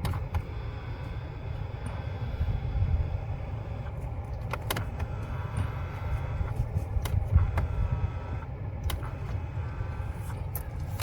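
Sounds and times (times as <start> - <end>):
air vent rush: 0.0 - 11.0.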